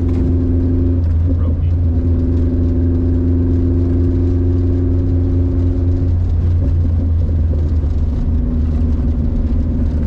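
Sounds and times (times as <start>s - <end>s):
road rumble: 0.0s - 10.0s
small truck engine running: 0.0s - 10.0s.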